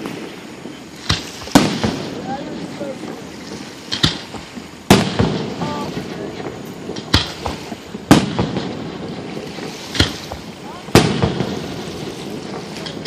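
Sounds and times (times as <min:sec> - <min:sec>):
fireworks booming: 0:00.0 - 0:13.0
fireworks popping and crackling: 0:00.0 - 0:13.0.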